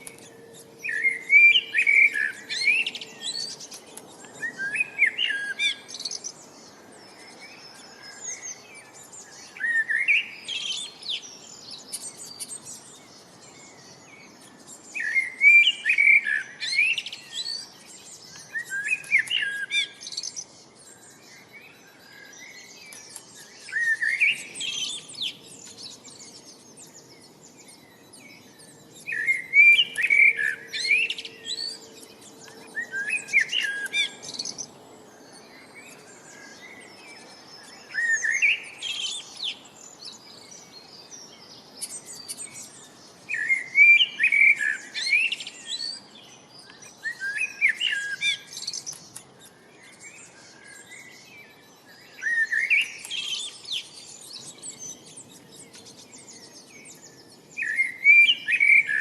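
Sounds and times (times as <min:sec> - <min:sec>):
songbird chirps and trills: 0:00.0 - 0:59.0.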